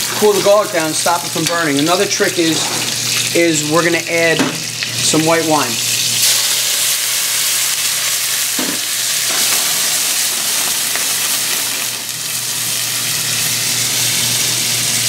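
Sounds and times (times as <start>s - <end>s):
wine sizzling in a hot pan: 0.0s - 15.0s.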